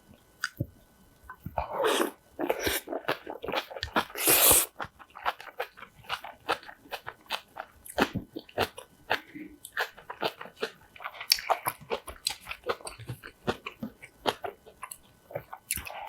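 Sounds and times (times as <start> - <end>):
wet chewing and slurping: 1.4 - 16.0.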